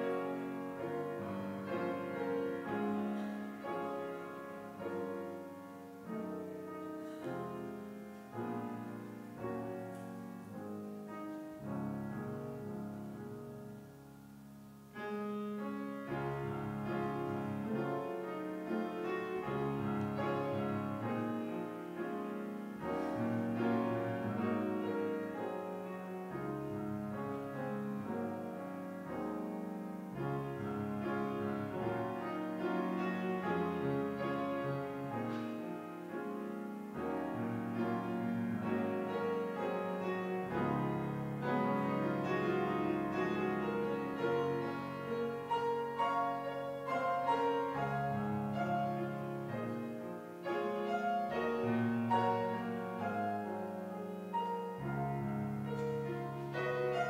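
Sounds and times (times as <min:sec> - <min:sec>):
slow instrumental keyboard music: 0:00.0 - 0:57.0.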